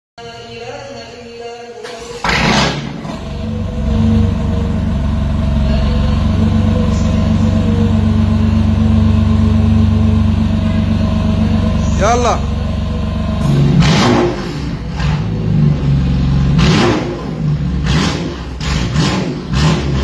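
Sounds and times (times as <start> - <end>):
car engine deep idle: 2.4 - 20.0.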